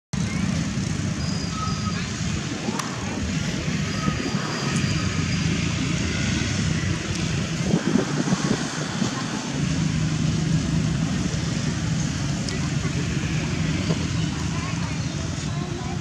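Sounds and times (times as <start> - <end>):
road traffic noise: 0.1 - 16.0
engine hum: 0.2 - 16.0.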